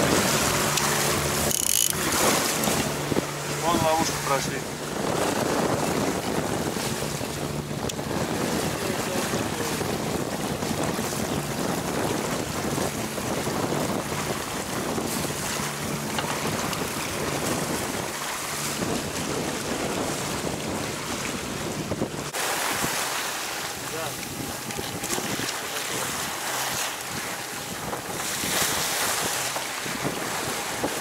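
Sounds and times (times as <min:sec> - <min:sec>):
water rushing along hull: 0:00.0 - 0:31.0
wind buffeting microphone: 0:00.0 - 0:31.0.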